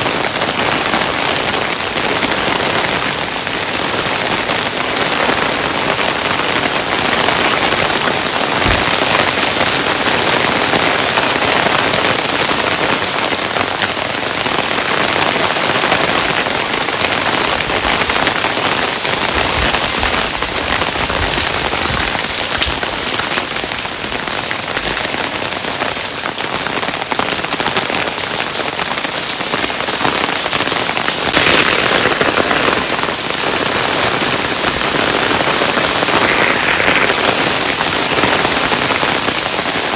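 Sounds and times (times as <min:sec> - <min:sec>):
hailstones pattering: 0:00.0 - 0:39.9.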